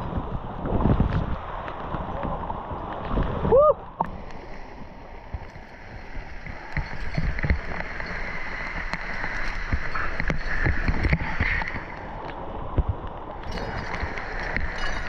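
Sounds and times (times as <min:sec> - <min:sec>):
wind buffeting microphone: 0:00.0 - 0:15.0
waterfall rushing and splashing: 0:00.6 - 0:15.0.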